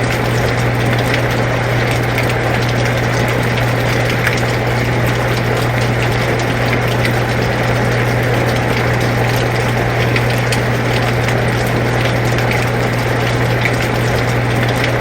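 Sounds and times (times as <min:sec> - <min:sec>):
air conditioner humming: 0:00.0 - 0:15.0
rain falling: 0:00.0 - 0:15.0.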